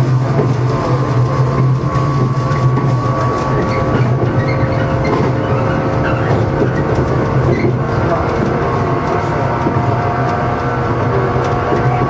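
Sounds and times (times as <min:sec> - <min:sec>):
train motors and wheels humming: 0:00.0 - 0:12.0.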